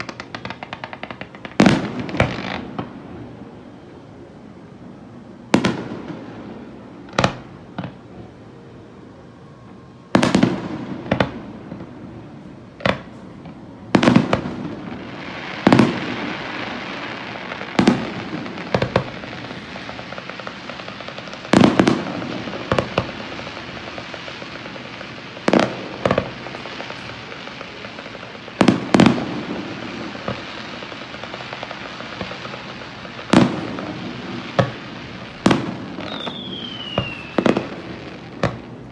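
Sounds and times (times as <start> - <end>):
fireworks booming: 0.0 - 8.4, 10.1 - 38.9
steady hiss: 0.0 - 38.9.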